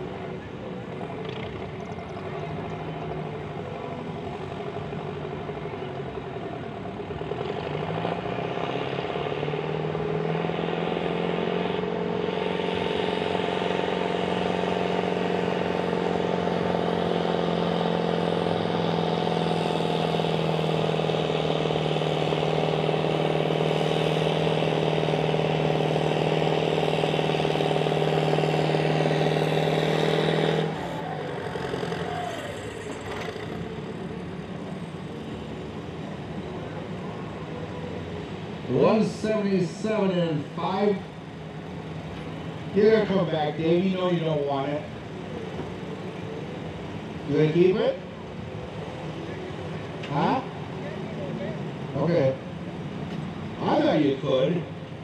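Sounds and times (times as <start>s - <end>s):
tractor engine at full throttle: 0.0s - 55.0s.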